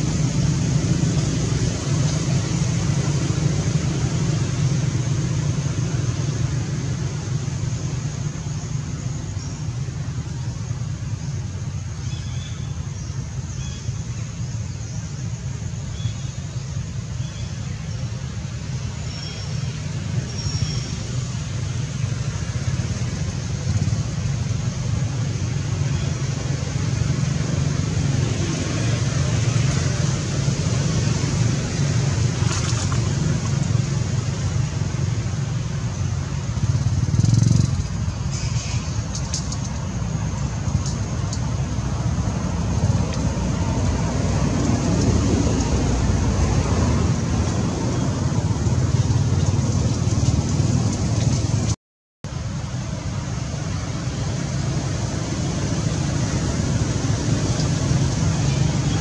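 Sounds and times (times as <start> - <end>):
low rumble and hiss: 0.0 - 59.0.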